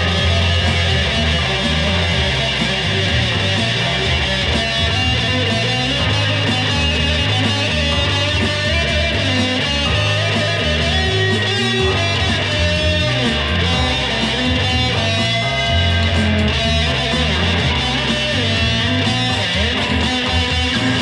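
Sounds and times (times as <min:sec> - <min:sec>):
backing track: 0:00.0 - 0:21.0
bass line: 0:00.0 - 0:21.0
electric guitar lead: 0:00.0 - 0:21.0.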